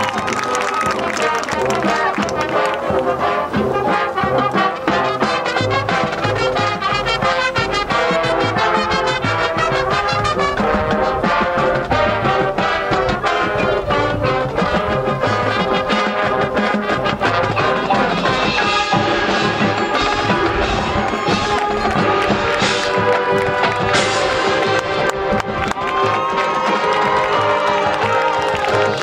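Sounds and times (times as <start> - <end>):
marching band brass chords: 0.0 - 29.0.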